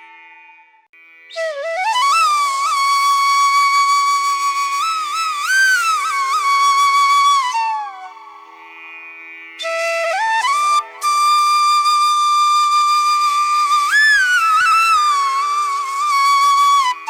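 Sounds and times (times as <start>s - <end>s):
solo flute melody: 1.3s - 8.5s, 9.6s - 17.0s.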